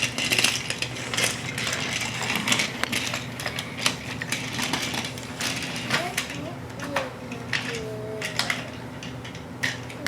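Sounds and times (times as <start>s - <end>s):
toy train clicking on wooden track: 0.0s - 10.0s.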